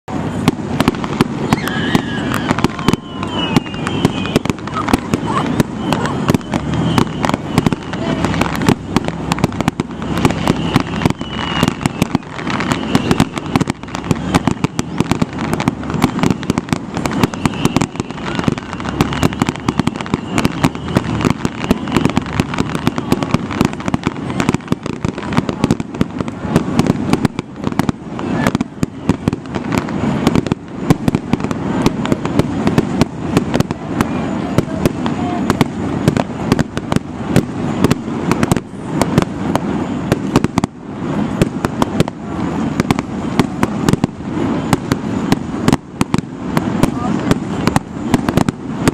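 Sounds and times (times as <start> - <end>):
fireworks bangs and crackling pops: 0.0 - 48.9.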